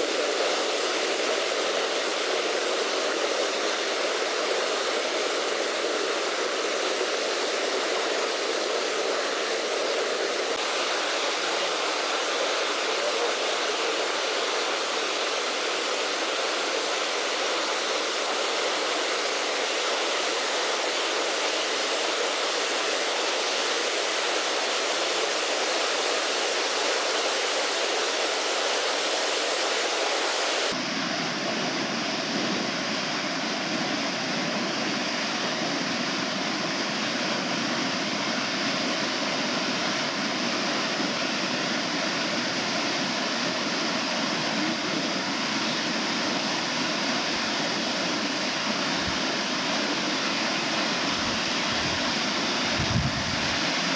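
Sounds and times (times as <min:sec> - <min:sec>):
waterfall rushing: 0:00.0 - 0:30.9, 0:34.6 - 0:53.9.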